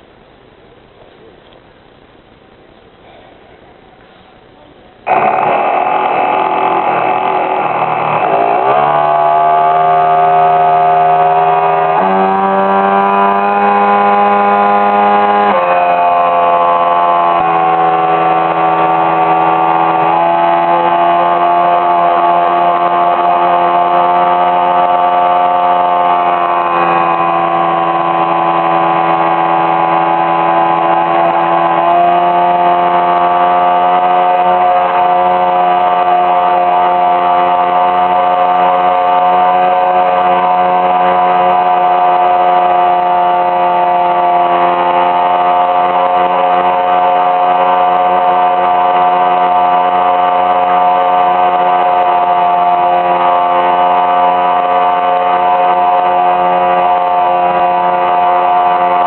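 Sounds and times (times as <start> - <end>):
boat motor running: 5.1 - 59.0.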